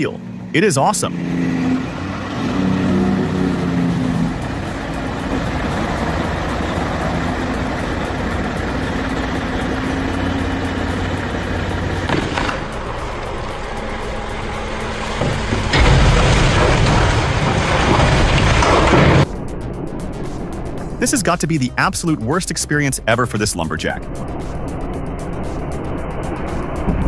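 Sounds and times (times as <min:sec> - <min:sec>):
loud broad rumbling: 0:00.0 - 0:22.4
heavy vehicle engine running: 0:00.0 - 0:27.0.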